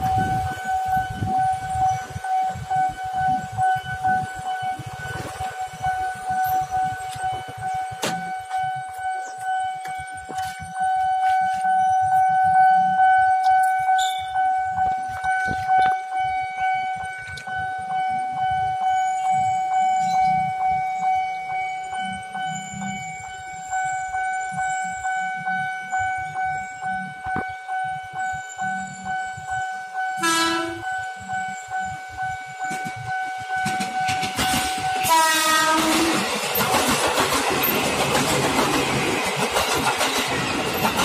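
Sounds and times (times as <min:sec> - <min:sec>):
level crossing alarm dings: 0:00.0 - 0:39.5.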